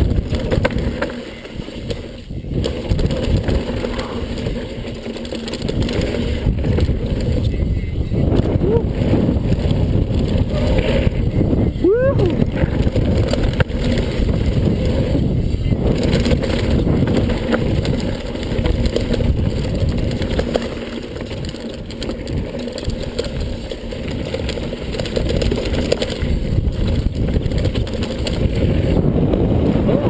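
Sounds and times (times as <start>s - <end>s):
bike rattling: 0.0s - 30.0s
wind buffeting microphone: 0.0s - 30.0s.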